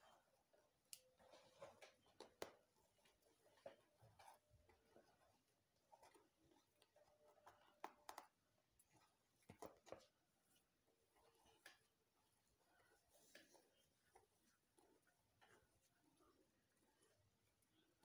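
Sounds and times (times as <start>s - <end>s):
fingers braiding hair: 0.0s - 18.0s.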